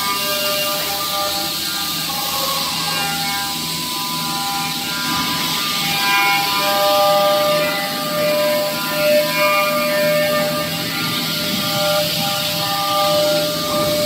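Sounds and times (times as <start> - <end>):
spindle whines: 0.0 - 14.0
wood cutting hiss: 0.0 - 14.0.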